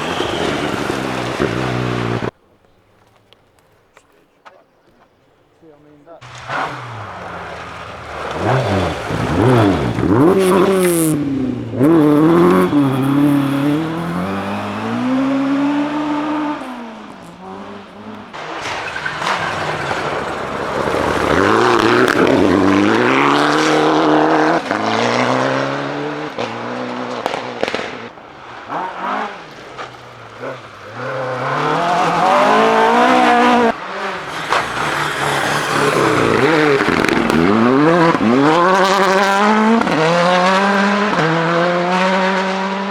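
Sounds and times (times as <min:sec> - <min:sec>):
rally car engines revving: 0:00.0 - 0:02.4, 0:06.1 - 0:42.9.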